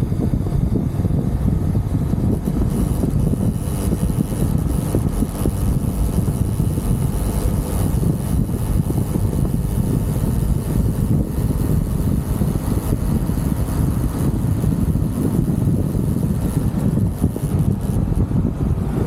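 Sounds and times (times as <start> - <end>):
motorcycle engine drone: 0.0 - 19.0
wind rumble on microphone: 0.0 - 19.0.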